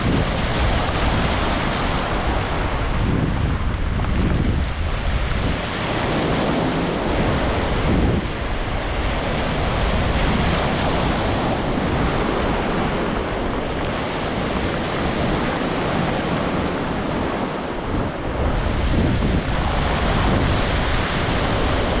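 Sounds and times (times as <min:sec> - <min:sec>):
ocean waves breaking on beach: 0:00.0 - 0:22.0
wind buffeting microphone: 0:00.0 - 0:22.0.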